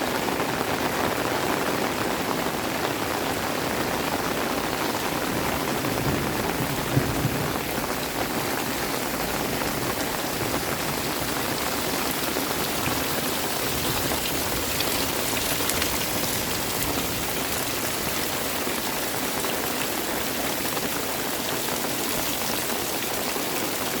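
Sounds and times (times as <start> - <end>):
steady rain hiss: 0.0 - 24.0
raindrop hits: 1.1 - 24.0.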